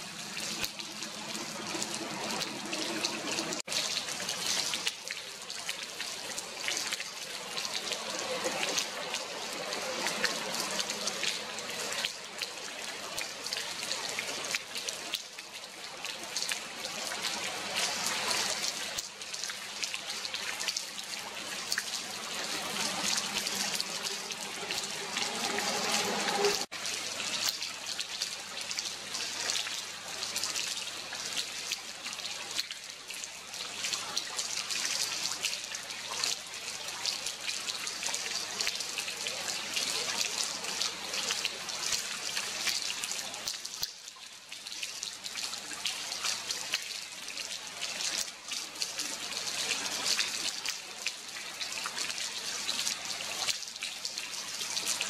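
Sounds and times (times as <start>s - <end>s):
water dripping and trickling: 0.0s - 55.0s.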